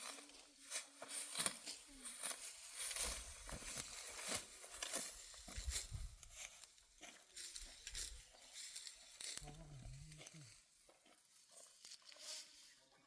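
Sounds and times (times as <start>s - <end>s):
dry stalks rustling and snapping: 0.0s - 12.6s.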